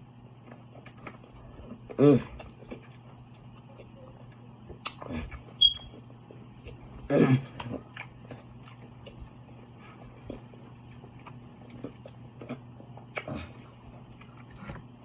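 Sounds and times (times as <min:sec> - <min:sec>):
soft chewing: 0:00.0 - 0:15.0
steady low hum: 0:00.0 - 0:15.0.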